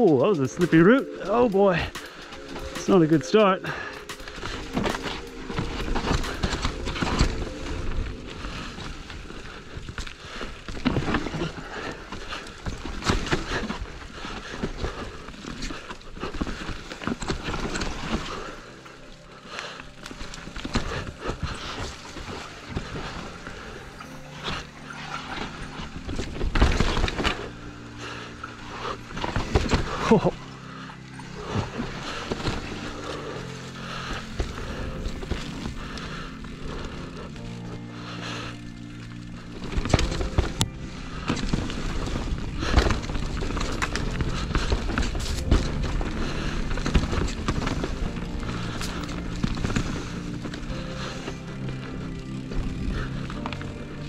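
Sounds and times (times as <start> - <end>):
bike rattling over bumps: 0.0 - 54.0
bike tyres rolling over dirt: 0.0 - 54.0.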